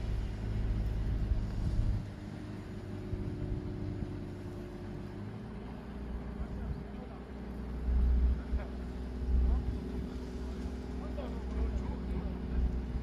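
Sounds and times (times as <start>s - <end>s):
paving machine engine rumbling: 0.0s - 13.0s.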